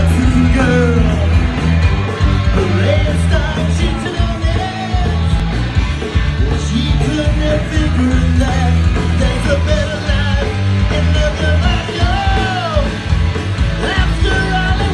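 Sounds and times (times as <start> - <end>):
punk rock band playing: 0.0 - 14.9.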